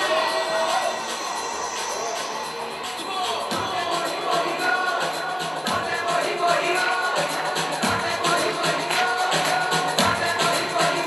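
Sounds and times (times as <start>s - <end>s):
dance music over loudspeakers: 0.0s - 11.0s.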